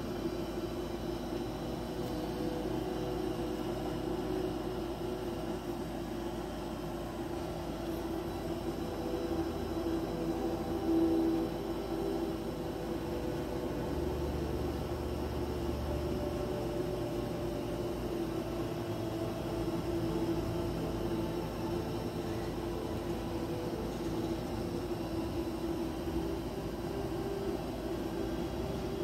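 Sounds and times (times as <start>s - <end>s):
droning hum: 0.0s - 29.0s.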